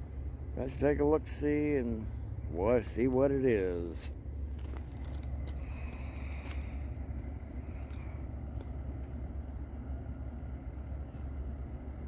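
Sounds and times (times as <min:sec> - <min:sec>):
distant freight train rumble: 0:00.0 - 0:12.0.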